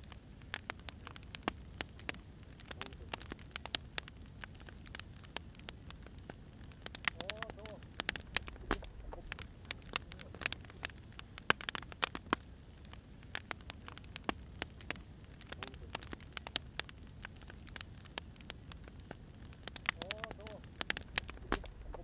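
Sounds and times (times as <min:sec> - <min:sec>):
firewood crackling and popping: 0:00.0 - 0:22.0
low rumble of flames: 0:00.0 - 0:22.0.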